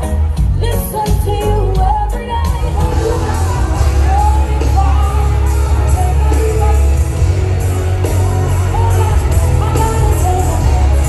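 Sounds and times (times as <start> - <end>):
loud live concert music: 0.0 - 11.0
person singing: 0.0 - 11.0.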